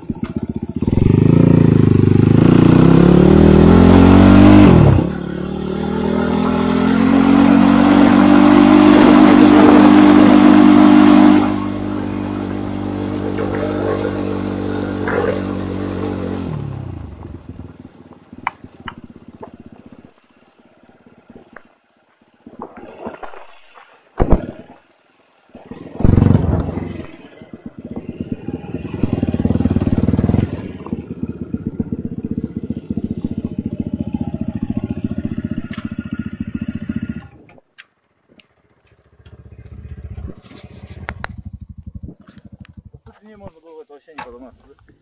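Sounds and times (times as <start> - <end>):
motorcycle engine revving: 0.0 - 43.5.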